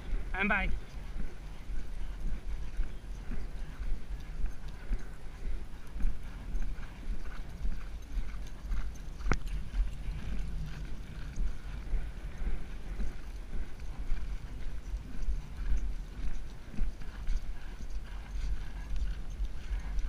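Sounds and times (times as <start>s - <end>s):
horse hoofbeats galloping on dirt: 0.0s - 20.0s
wind rumble on microphone: 0.0s - 20.0s.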